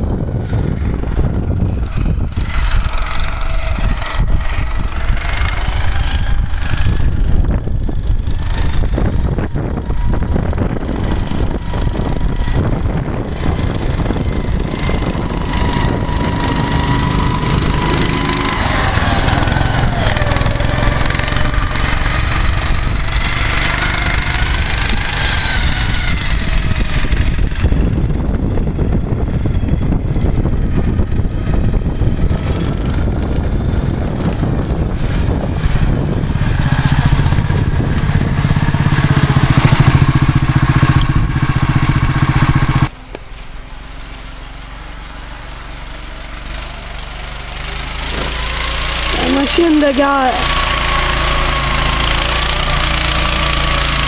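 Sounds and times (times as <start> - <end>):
snowmobile engine under load: 0.0 - 54.0.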